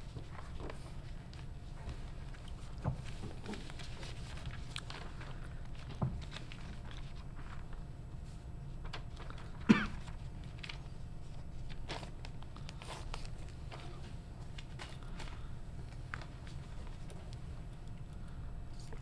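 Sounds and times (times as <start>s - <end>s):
low room hum: 0.0s - 19.0s
paper pads and pens rustling: 0.0s - 19.0s.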